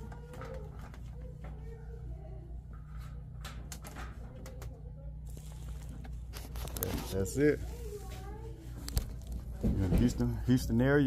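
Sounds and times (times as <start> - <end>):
air conditioning unit humming: 0.0 - 11.0.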